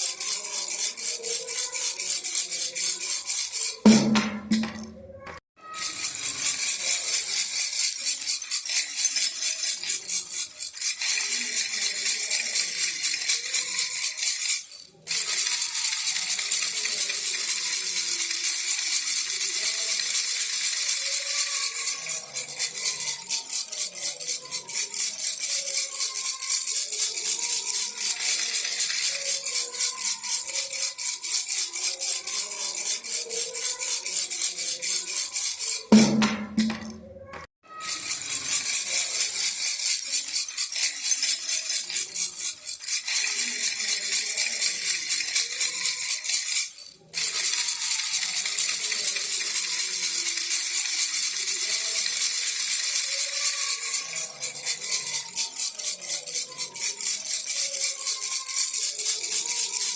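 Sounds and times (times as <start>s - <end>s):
baby rattle shaken rapidly: 0.0s - 59.9s.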